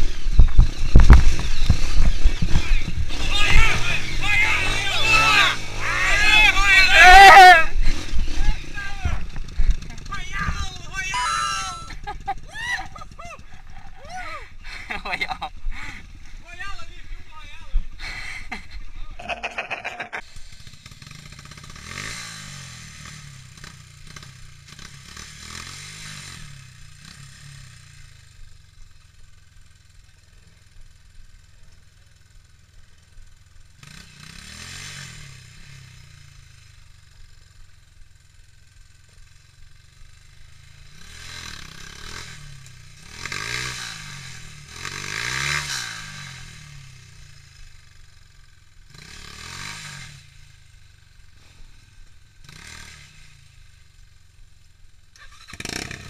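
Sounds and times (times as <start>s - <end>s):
dirt bike engine revving: 0.0s - 28.7s, 29.3s - 54.3s, 55.0s - 56.0s.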